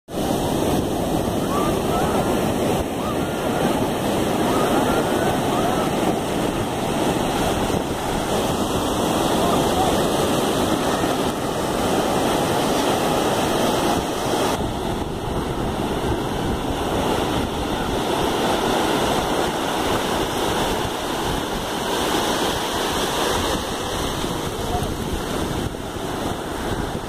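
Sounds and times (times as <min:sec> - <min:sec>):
waves breaking on beach: 0:00.1 - 0:27.0.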